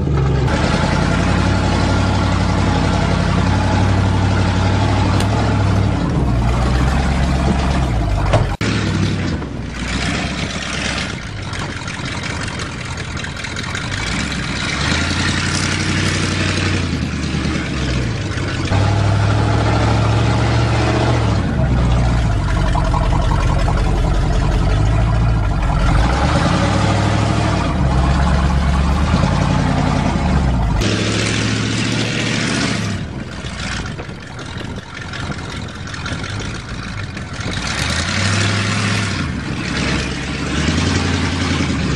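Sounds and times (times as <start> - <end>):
truck engine revving: 0.0 - 41.9.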